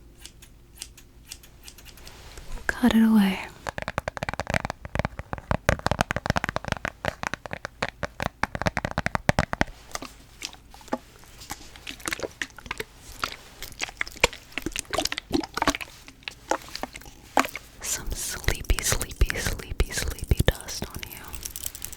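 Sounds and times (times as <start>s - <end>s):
ball crackling clicks: 0.2s - 21.9s.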